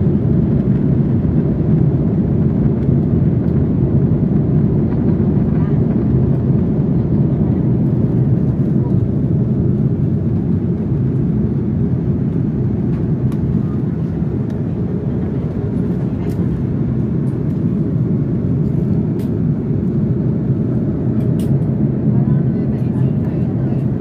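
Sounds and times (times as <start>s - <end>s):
airliner cabin engine rush: 0.0s - 24.0s.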